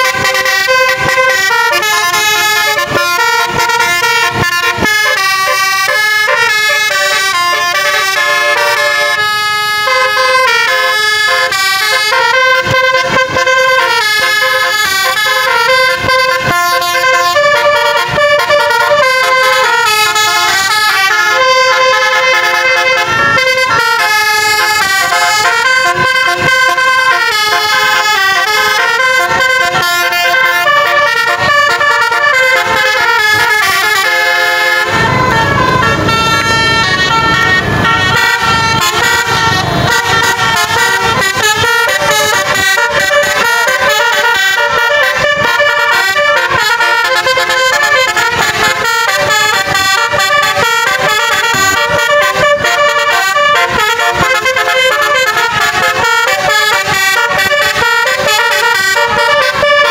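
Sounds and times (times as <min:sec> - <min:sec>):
low rumble of bus: 0:00.0 - 0:59.9
multi-tone bus horn melody: 0:00.0 - 0:59.9.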